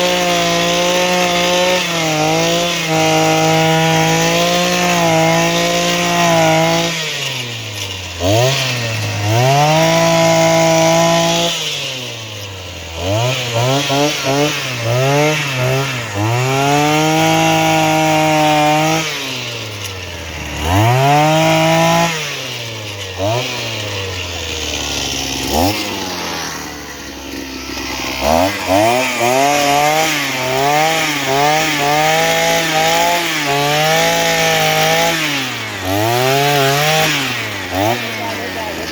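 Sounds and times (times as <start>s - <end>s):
auger engine revving: 0.0s - 38.9s.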